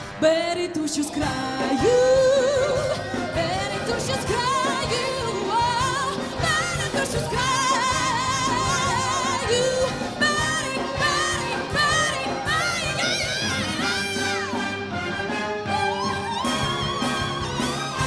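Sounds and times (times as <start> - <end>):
woman singing: 0.0 - 14.8
big band with brass: 0.0 - 18.0.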